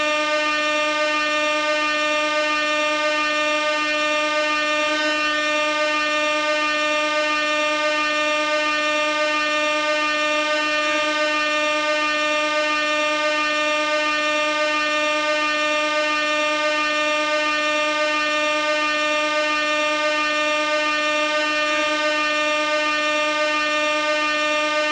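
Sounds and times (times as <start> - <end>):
air horn blast: 0.0 - 24.9.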